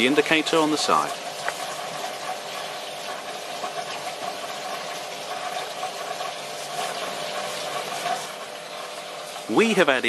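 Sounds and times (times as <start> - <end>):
pump hum: 0.0 - 10.0
water rushing: 0.0 - 10.0.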